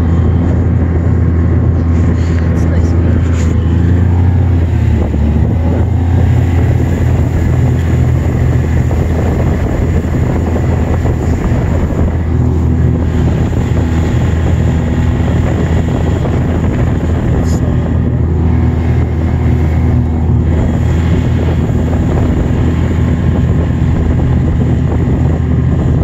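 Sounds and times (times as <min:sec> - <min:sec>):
snowmobile engine droning: 0:00.0 - 0:26.0.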